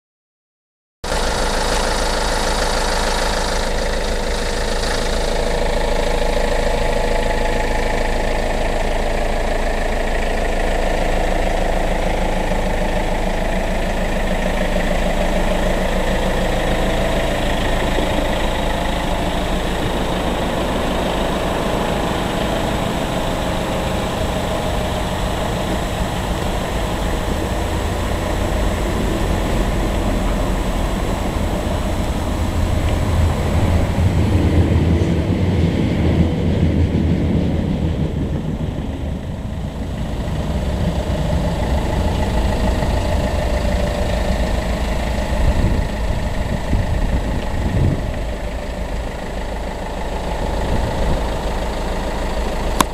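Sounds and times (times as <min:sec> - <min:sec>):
diesel van engine idling: 0:01.0 - 0:52.9.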